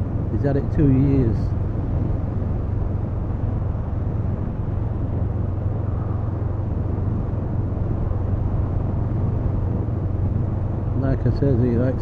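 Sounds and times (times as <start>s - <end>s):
motorcycle engine drone: 0.0s - 12.0s
wind rush: 0.0s - 12.0s.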